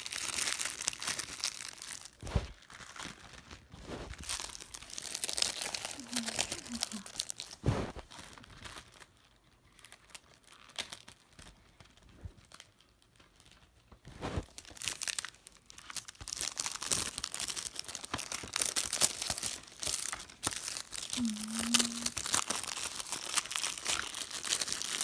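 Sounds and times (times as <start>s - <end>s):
plastic wrap crinkling and tearing: 0.0s - 25.0s.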